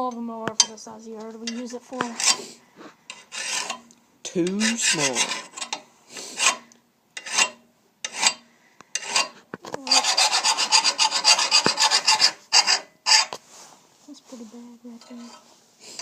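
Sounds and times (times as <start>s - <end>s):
file rasping on steel blade: 1.4s - 13.4s, 15.0s - 16.0s.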